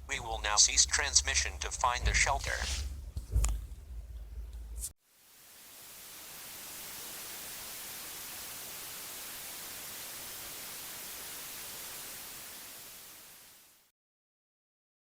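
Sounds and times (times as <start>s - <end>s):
television static hiss: 0.0s - 13.9s.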